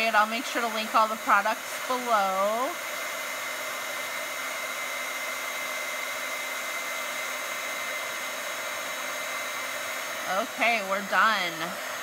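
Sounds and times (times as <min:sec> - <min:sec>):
heat gun blowing with whine: 0:00.0 - 0:12.0.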